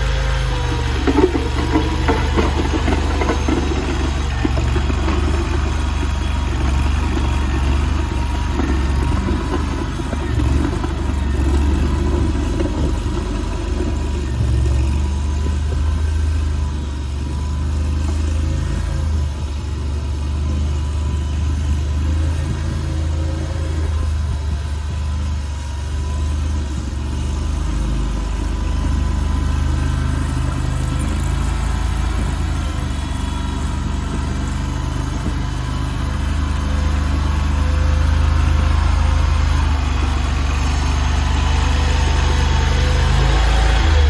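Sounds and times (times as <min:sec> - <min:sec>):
skid steer loader engine running: 0:00.0 - 0:44.0.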